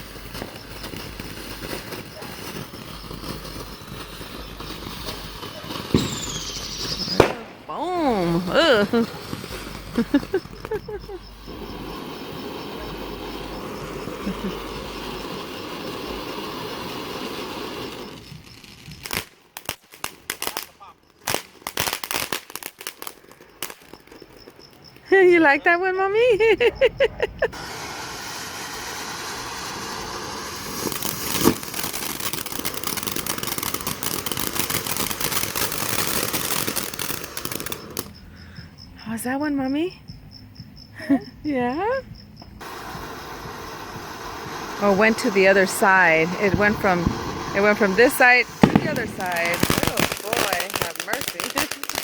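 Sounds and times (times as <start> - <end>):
fountain firework hissing: 0.0 - 24.0, 27.5 - 38.2, 42.6 - 52.0.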